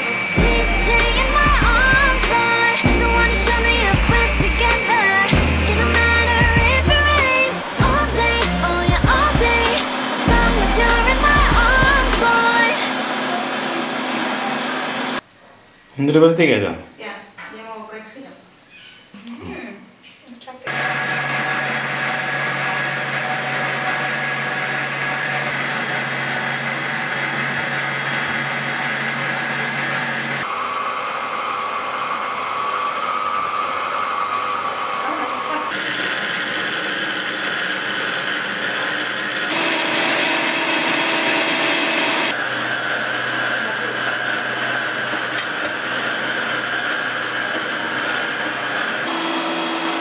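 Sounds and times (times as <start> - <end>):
stand mixer motor running: 0.0 - 15.2, 20.7 - 35.0, 35.7 - 50.0.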